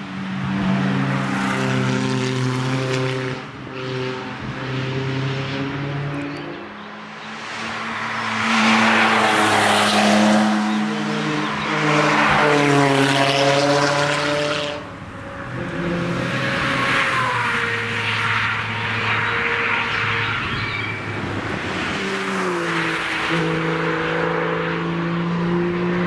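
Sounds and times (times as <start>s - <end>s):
car engine approaching: 0.3s - 26.0s.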